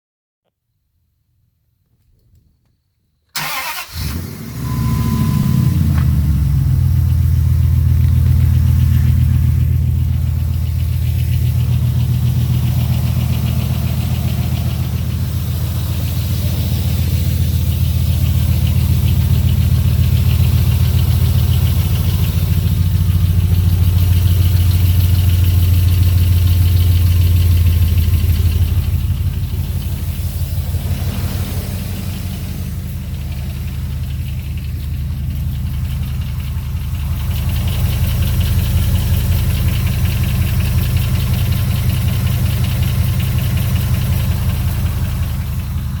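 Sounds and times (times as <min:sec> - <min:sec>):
engine running with clattering: 0:03.4 - 0:46.0.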